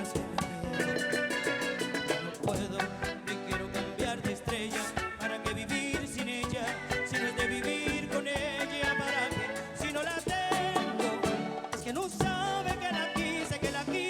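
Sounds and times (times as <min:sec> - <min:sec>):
bending melody line: 0:00.0 - 0:14.0
live band playing: 0:00.0 - 0:14.0
percussion strokes: 0:00.0 - 0:14.0.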